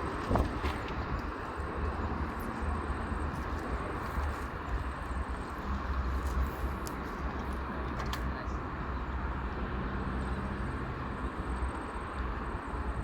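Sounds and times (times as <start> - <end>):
traffic rumble with tyre noise: 0.0 - 13.0.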